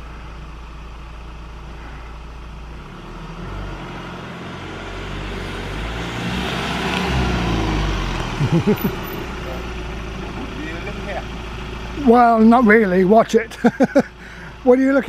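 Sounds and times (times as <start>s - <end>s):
van engine approaching: 0.0s - 15.0s.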